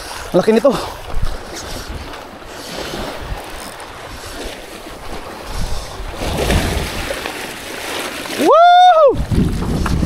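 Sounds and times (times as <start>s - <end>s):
seawater sloshing over rocks: 0.0s - 10.0s
wind buffeting microphone: 0.8s - 10.0s.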